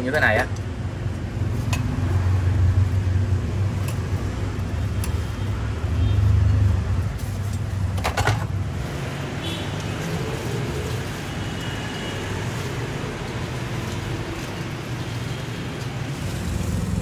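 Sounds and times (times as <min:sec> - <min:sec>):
street traffic engine rumble: 0:00.0 - 0:17.0.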